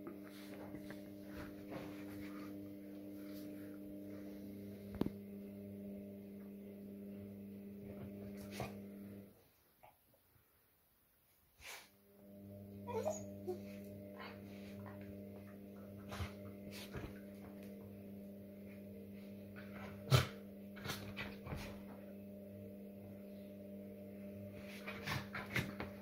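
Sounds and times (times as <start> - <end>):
electrical hum: 0.0 - 9.4, 12.0 - 26.0.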